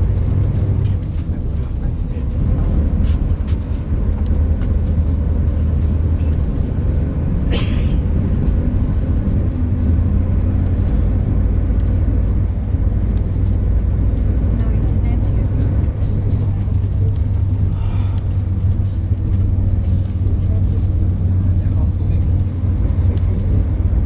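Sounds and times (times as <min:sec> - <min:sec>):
vehicle rumble from inside: 0:00.0 - 0:24.0.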